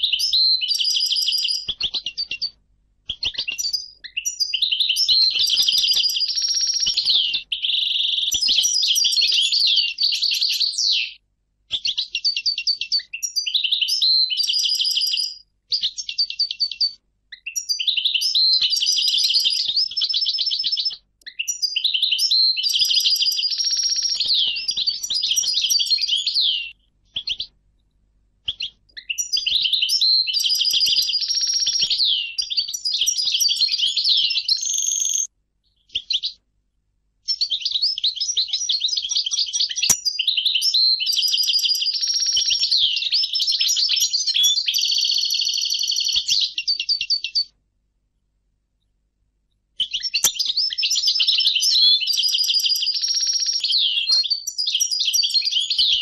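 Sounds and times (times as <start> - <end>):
goldfinch singing: 0.0 - 2.5, 3.1 - 11.2, 11.8 - 27.5, 28.5 - 35.3, 37.3 - 47.5, 49.8 - 56.0.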